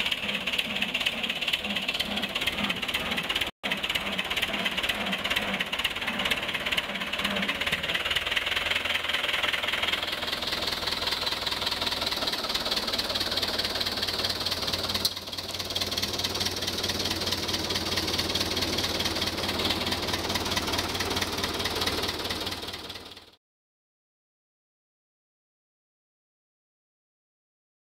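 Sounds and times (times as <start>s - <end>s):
tractor diesel engine running: 0.0s - 23.4s.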